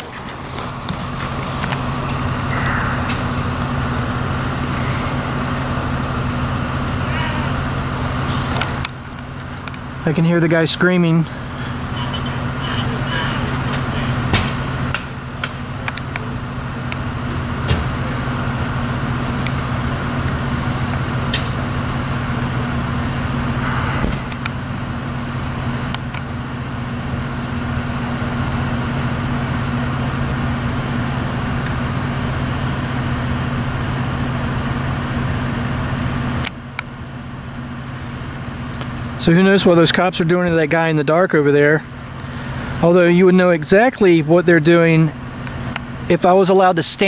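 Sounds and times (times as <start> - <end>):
vehicle engine idling: 0.0 - 47.0.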